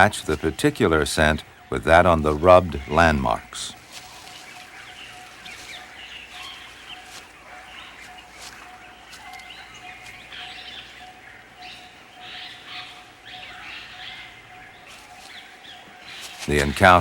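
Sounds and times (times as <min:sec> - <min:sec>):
birds chirping and calling: 0:00.0 - 0:17.0
steady jungle background: 0:00.0 - 0:17.0.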